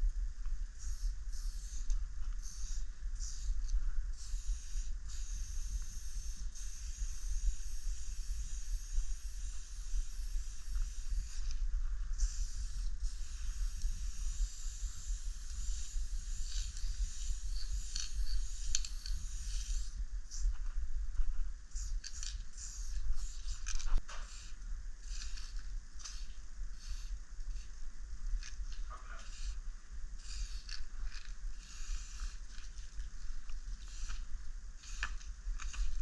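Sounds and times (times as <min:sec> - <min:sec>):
low steady rumble: 0:00.0 - 0:36.0
spray paint can hissing: 0:00.8 - 0:20.5, 0:21.7 - 0:27.8, 0:28.4 - 0:36.0.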